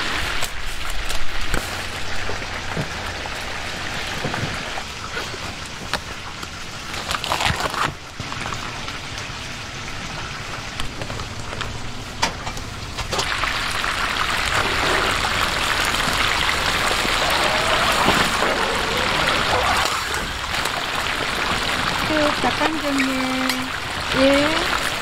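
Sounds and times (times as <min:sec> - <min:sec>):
hot oil sizzling: 0:00.0 - 0:25.0.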